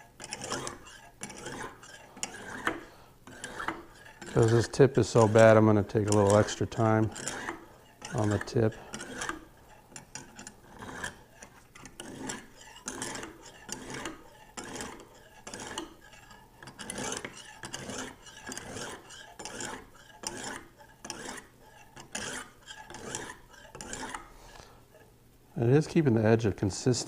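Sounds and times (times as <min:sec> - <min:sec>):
hone rubbing on knife edge: 0:00.0 - 0:25.1.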